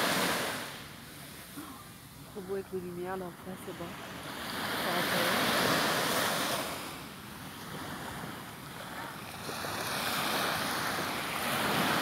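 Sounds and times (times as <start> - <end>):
sea waves breaking on beach: 0.0 - 12.0.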